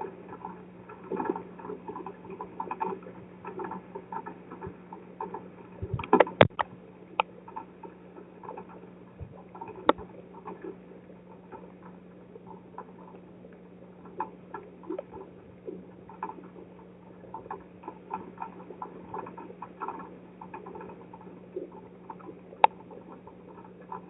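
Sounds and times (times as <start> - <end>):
raindrops striking camera: 0.3 - 24.0.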